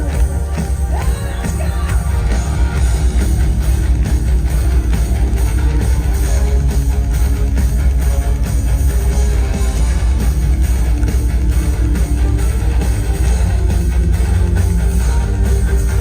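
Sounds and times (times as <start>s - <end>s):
live heavy metal band: 0.0s - 16.0s.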